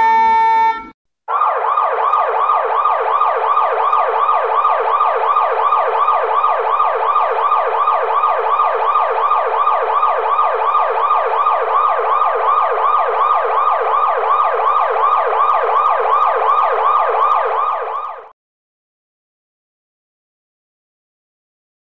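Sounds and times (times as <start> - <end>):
police siren yelping: 0.0 - 18.3.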